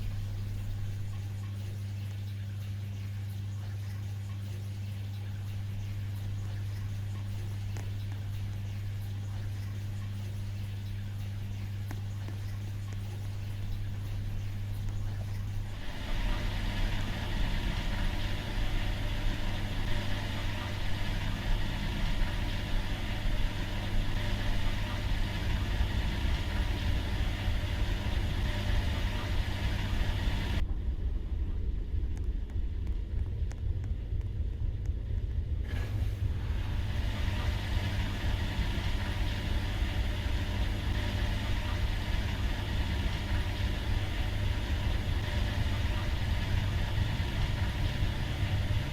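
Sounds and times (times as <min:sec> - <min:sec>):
washing machine running: 0:00.0 - 0:48.9.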